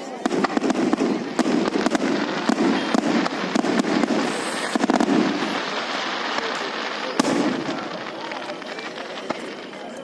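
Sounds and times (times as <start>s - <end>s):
fireworks bangs and cracks: 0.0s - 10.0s
rumbling din of explosions: 0.2s - 10.0s.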